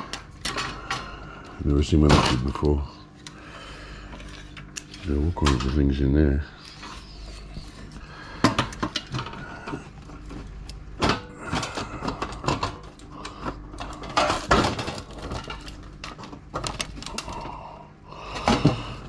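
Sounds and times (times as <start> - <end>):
metal and plastic parts rattling: 0.0 - 1.1, 1.9 - 2.7, 4.1 - 17.6.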